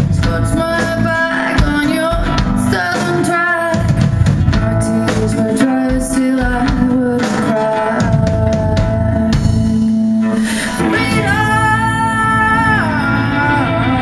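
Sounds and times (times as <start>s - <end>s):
acoustic guitar: 0.0s - 14.0s
drum kit beat: 0.0s - 14.0s
electric guitar: 0.0s - 14.0s
woman singing: 0.0s - 14.0s.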